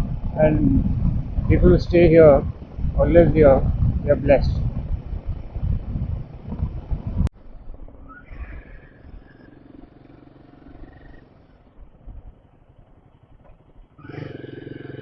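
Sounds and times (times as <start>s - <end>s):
motorcycle engine running: 0.0s - 8.0s, 8.8s - 15.0s.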